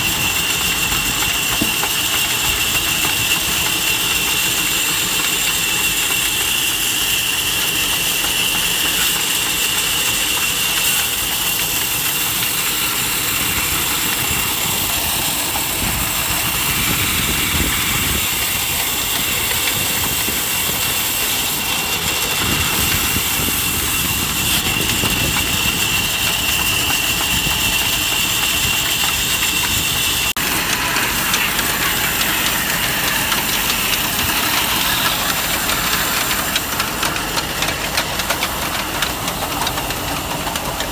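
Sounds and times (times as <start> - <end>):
band saw engine drone: 0.0 - 40.9
drive belt turning pulley: 0.0 - 40.9
high whine of saw blade: 0.0 - 40.9.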